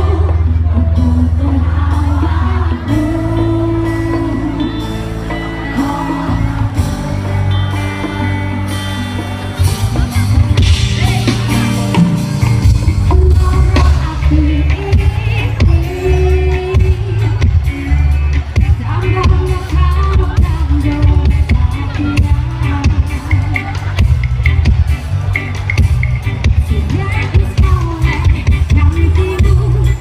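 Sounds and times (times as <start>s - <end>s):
live music with singing: 0.0s - 30.0s.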